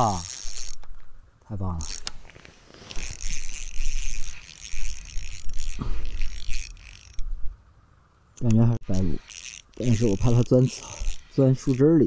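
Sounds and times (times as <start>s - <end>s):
fishing reel whirring: 0.0s - 0.9s, 1.8s - 7.4s, 8.8s - 12.0s.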